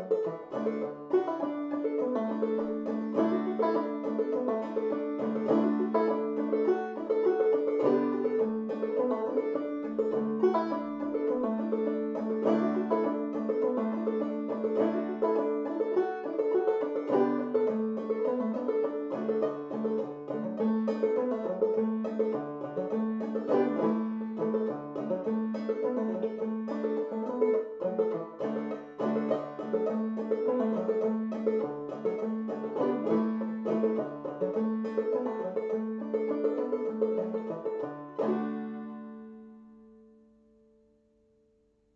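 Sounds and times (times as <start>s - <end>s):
banjo plucked melody: 0.0s - 40.3s.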